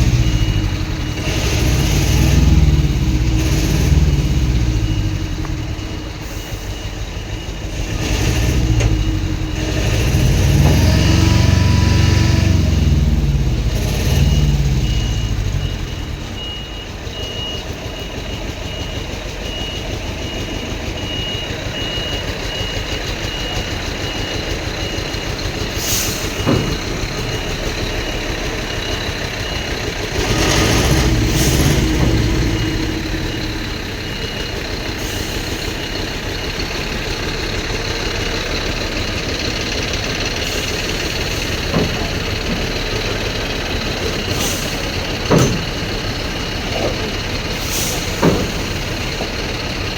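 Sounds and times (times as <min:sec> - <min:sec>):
diesel engine idling: 0:00.0 - 0:49.9
warning alarm beeps: 0:00.0 - 0:49.9.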